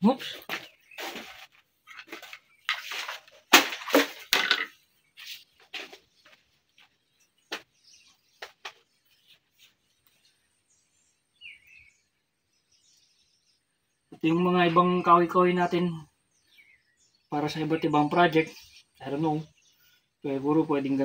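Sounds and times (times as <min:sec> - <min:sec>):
bird chirp: 0:00.0 - 0:03.5, 0:04.7 - 0:21.0.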